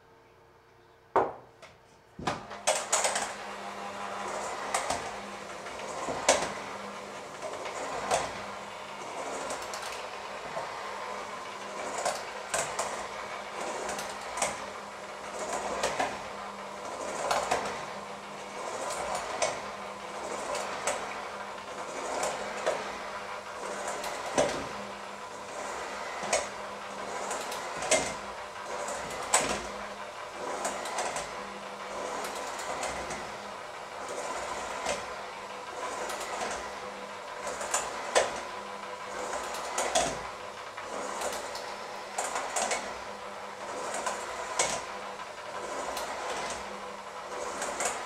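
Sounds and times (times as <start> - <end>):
electric hand mixer running: 2.3 - 48.0.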